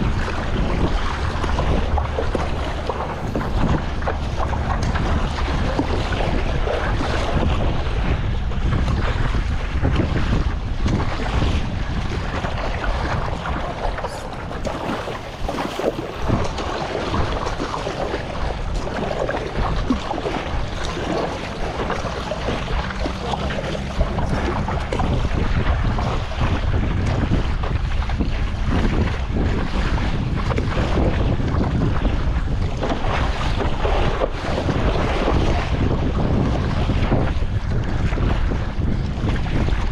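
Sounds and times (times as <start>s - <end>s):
water splashing around paddleboard: 0.0s - 39.9s
wind buffeting microphone: 0.0s - 39.9s.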